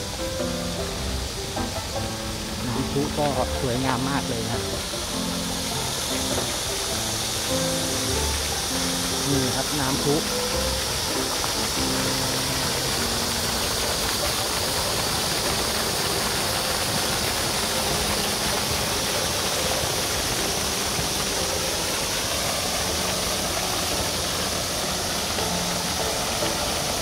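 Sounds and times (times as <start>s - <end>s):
fountain water splashing: 0.0s - 27.0s.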